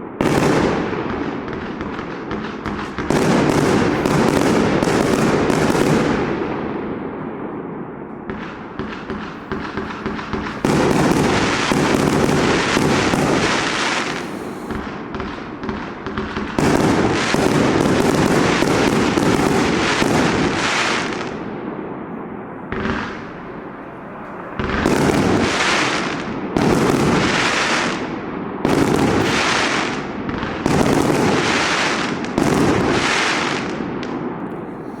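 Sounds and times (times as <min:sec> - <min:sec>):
firework barrage firing: 0:00.0 - 0:35.0.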